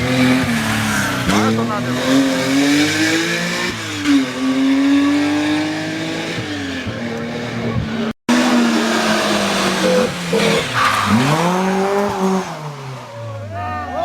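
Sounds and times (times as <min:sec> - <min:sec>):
rally car engine accelerating: 0:00.0 - 0:13.5.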